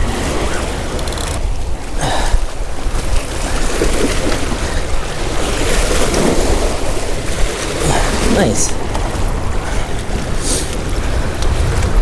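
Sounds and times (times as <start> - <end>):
waves washing against shore: 0.0 - 12.0
wind buffeting microphone: 0.0 - 12.0.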